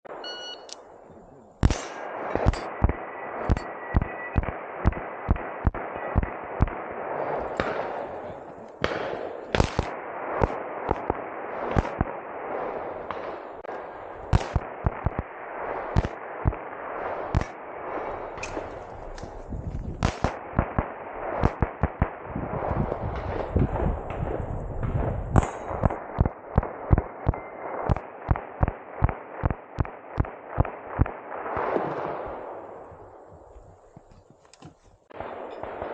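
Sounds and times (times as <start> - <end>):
rapid gunshots: 1.6 - 32.7, 35.1 - 35.9.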